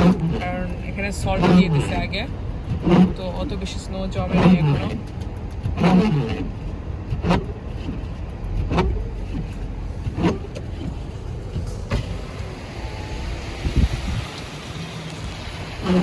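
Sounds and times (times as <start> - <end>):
car engine and road rumble: 0.0 - 16.0
windshield wipers swishing: 0.0 - 16.0.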